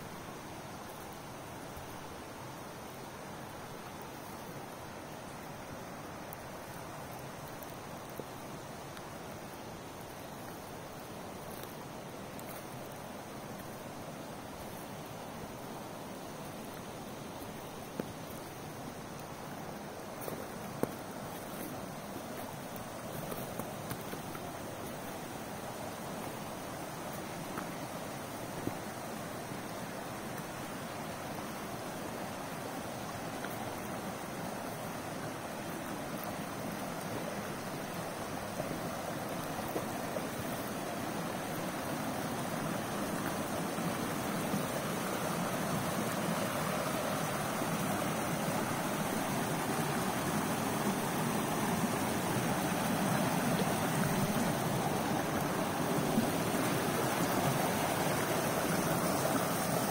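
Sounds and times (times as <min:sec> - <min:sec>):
creek rushing over rocks: 0:00.0 - 0:59.9.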